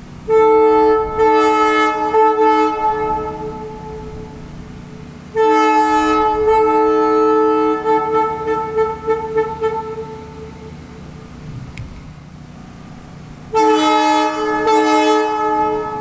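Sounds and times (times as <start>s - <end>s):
two-chime train air horn: 0.2s - 11.4s, 12.0s - 16.0s.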